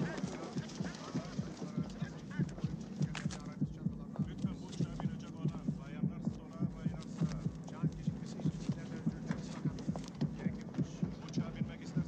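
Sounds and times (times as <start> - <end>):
fast heartbeat thumps: 0.0 - 12.0.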